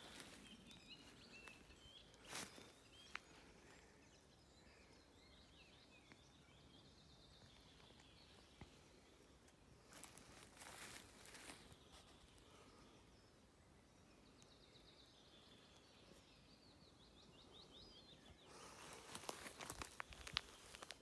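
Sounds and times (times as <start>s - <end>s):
faint distant bird chirps: 0.0s - 21.0s.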